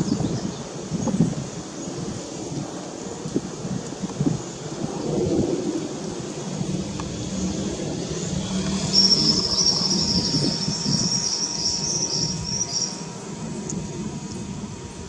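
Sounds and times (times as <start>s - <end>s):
high wavering whine: 0.0s - 15.0s
jet engines rumbling overhead: 0.0s - 15.0s.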